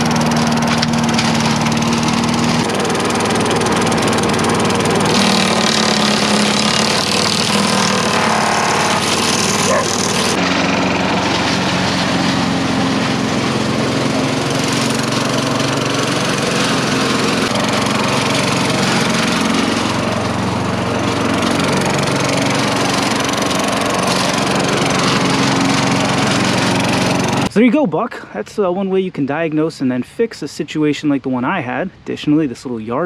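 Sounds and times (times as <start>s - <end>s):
vacuum pushed over leaves: 0.0s - 27.5s
yard vacuum engine running: 0.0s - 27.6s.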